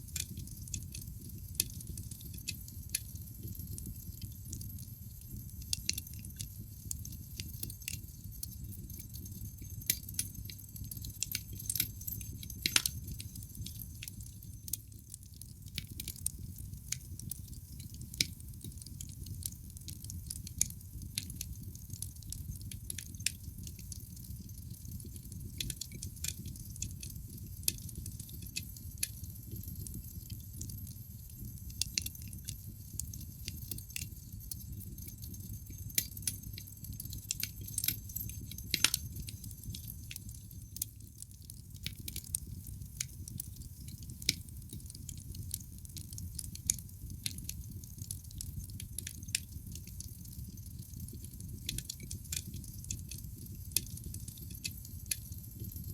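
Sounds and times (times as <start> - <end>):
fire crackling and popping: 0.0 - 55.9
low rumble of flame: 0.0 - 55.9.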